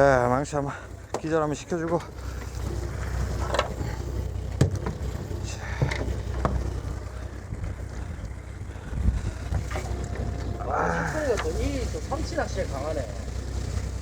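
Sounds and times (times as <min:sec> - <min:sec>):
boat engine low rumble: 0:00.0 - 0:14.0
wind: 0:00.0 - 0:14.0.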